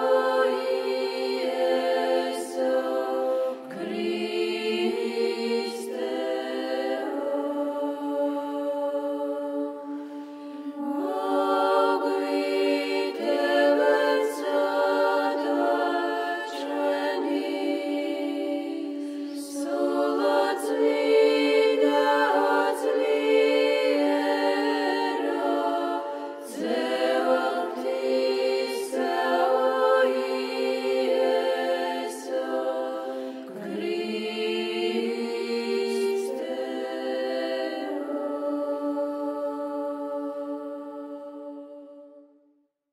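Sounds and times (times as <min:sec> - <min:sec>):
choir chanting: 0:00.0 - 0:42.5.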